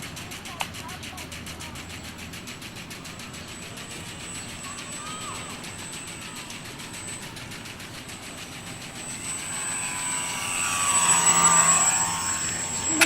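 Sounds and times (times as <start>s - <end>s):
aircraft flying past: 1.4s - 13.0s.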